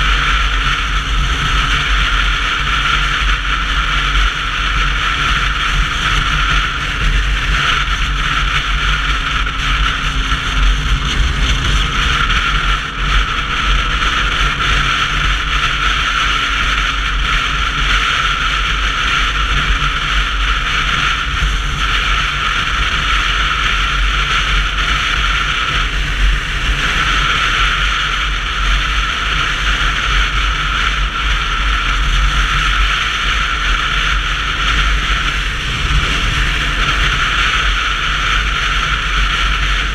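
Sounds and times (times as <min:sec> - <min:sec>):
wind buffeting rumble: 0:00.0 - 0:39.9.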